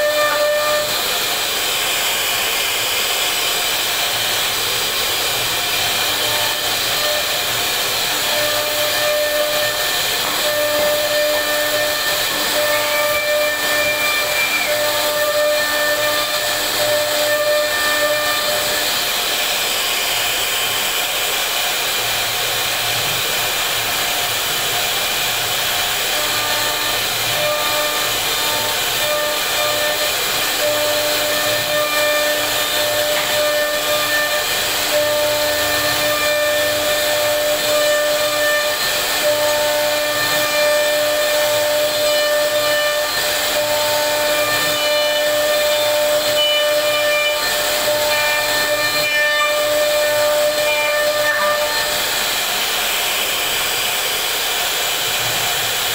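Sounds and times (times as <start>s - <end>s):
router cutter hissing through wood: 0.0s - 55.9s.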